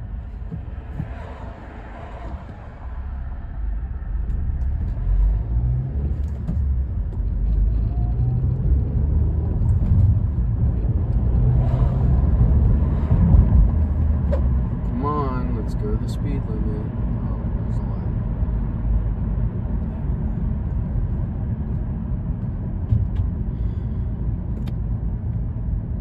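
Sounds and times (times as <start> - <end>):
car engine accelerating: 0.0 - 26.0
road rumble: 0.0 - 26.0.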